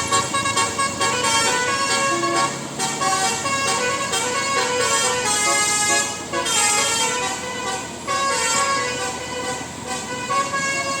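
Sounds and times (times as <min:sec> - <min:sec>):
multi-note musical bus horn: 0:00.0 - 0:11.0.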